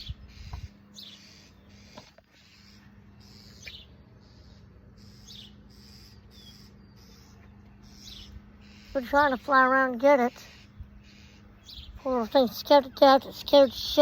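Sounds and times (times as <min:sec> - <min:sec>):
songbirds giving sharp high calls: 0:00.0 - 0:14.0.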